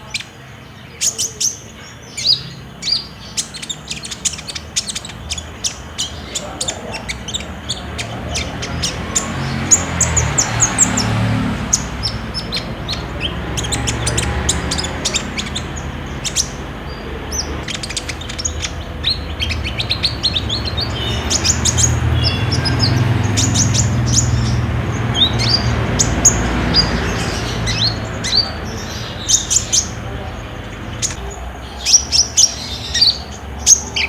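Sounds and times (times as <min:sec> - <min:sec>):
sunbird singing high chirps: 0:00.0 - 0:34.0.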